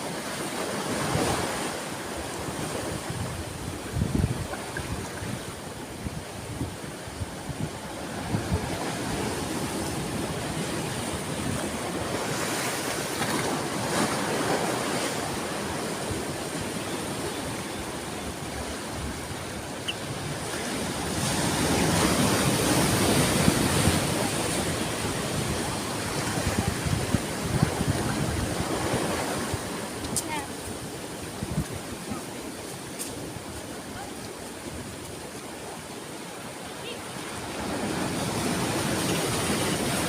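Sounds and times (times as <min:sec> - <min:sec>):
ocean waves on shore: 0:00.0 - 0:40.0.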